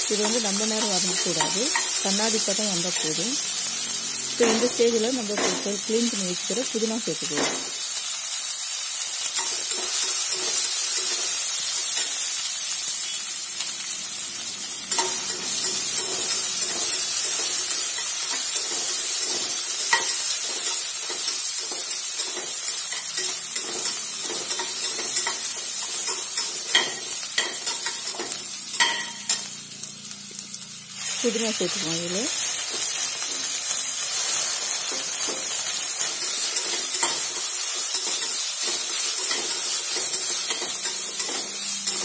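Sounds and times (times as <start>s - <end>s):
onions and spices sizzling: 0.0s - 42.0s.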